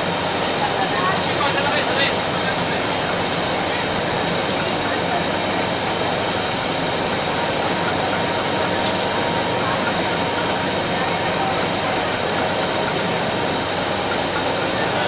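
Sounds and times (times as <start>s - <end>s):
factory machinery running: 0.0s - 15.0s.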